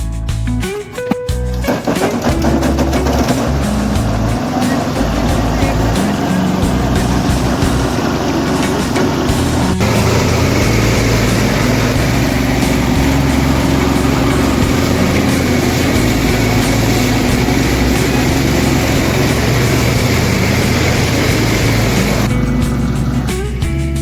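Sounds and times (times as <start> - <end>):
small engine running steadily: 1.6 - 24.0.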